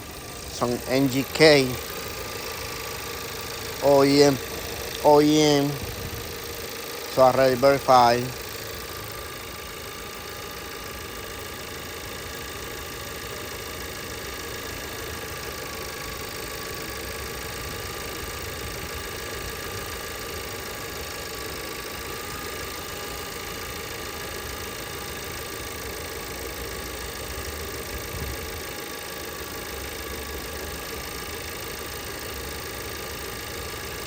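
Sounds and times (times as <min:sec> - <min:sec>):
car engine idling with misfire: 0:00.0 - 0:34.0.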